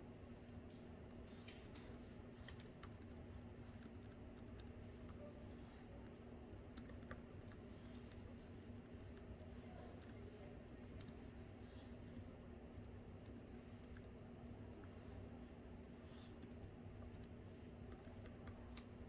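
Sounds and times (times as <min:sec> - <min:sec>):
steady low hum: 0:00.0 - 0:19.0
faint laptop keyboard typing: 0:00.2 - 0:19.0.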